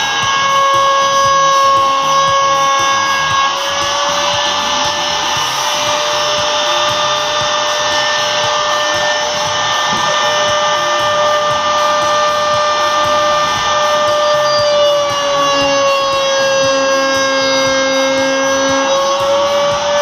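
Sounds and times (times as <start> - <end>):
power tool motor whining: 0.0 - 20.0.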